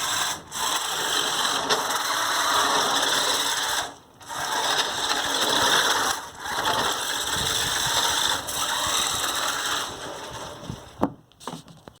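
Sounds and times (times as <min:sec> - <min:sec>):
rc car motor whining: 0:00.0 - 0:11.0.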